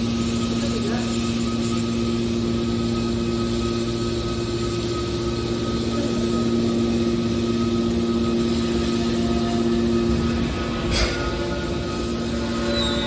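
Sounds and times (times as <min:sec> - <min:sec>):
hydraulic baler humming: 0:01.6 - 0:13.0.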